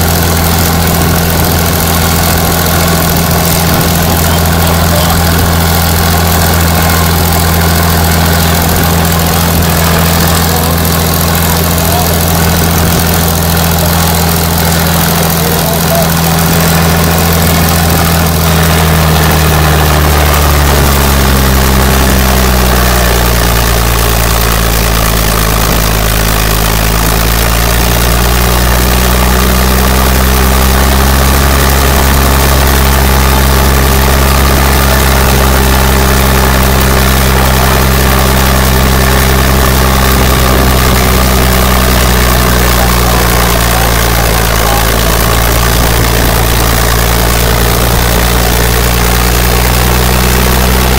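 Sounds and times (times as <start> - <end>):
diesel engine under heavy load: 0.0 - 50.9.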